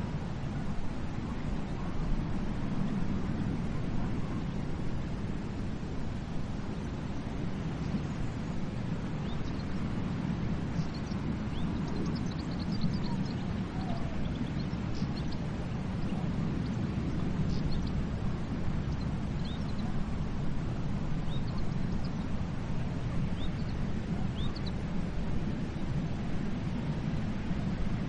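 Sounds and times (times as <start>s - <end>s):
sea surf rumble: 0.0s - 28.0s.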